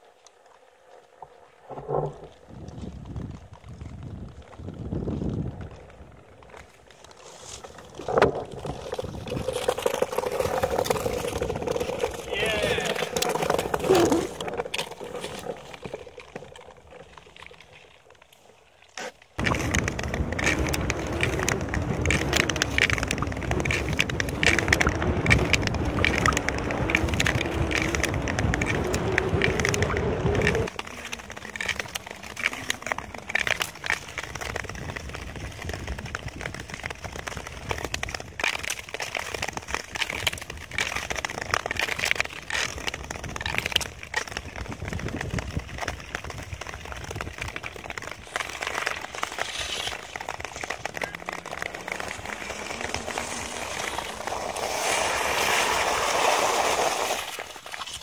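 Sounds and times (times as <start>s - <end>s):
ice skate blades scraping ice: 4.4s - 58.0s.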